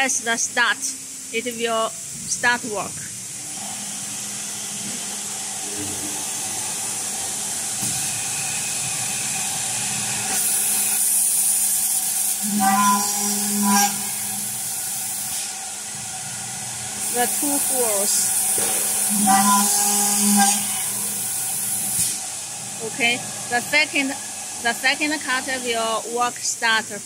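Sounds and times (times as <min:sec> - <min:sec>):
milling machine hiss and hum: 0:00.0 - 0:27.0.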